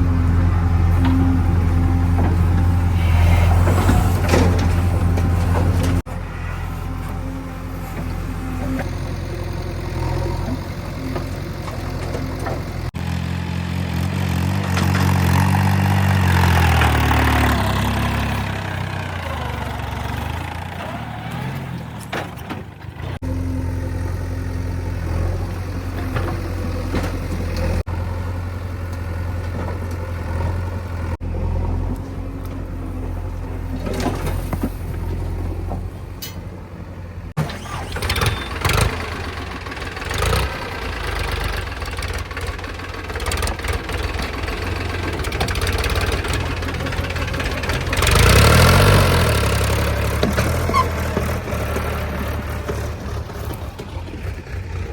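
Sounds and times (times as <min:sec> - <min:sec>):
diesel machinery engines revving: 0:00.0 - 0:54.9.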